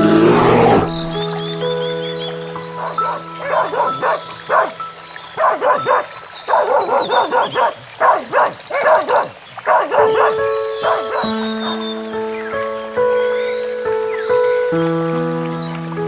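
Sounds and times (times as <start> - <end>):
soft background music: 0.0 - 7.0, 10.0 - 16.0.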